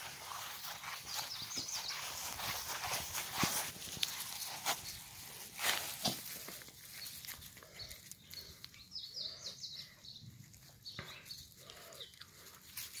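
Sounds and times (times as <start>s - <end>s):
rustling of fur and grass: 0.0s - 13.0s.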